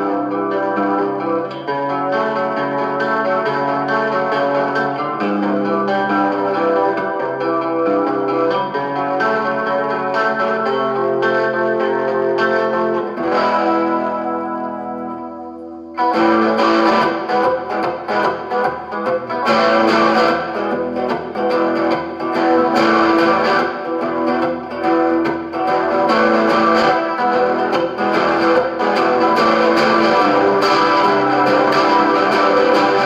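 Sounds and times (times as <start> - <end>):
electric guitar notes and chords: 0.0 - 33.0.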